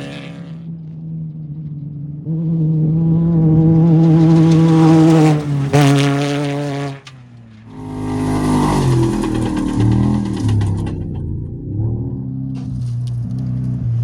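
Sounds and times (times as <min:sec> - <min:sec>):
race engine at high revs: 0:00.0 - 0:14.0
race engine revving: 0:00.0 - 0:14.0.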